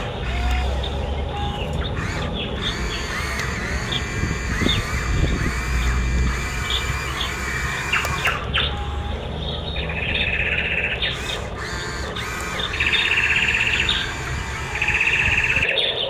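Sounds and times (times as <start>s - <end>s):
bird trilling: 0.0s - 16.0s
bird chirps: 0.5s - 16.0s.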